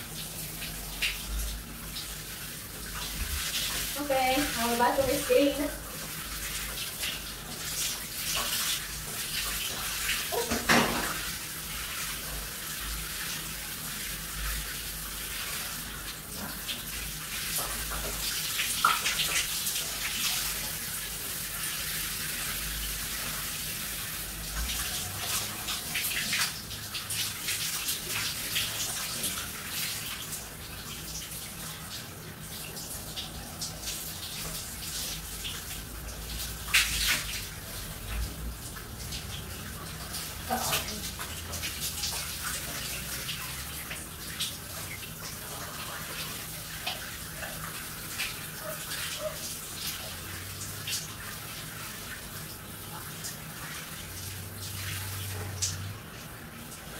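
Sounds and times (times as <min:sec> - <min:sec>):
shower water splashing: 0:00.0 - 0:56.9.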